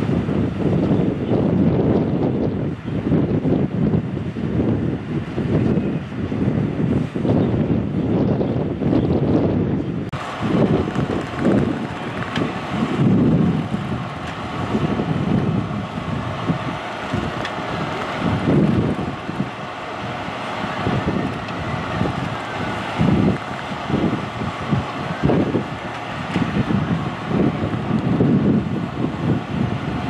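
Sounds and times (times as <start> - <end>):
low background rumble: 0.0 - 30.0
wind buffeting microphone: 0.0 - 30.0.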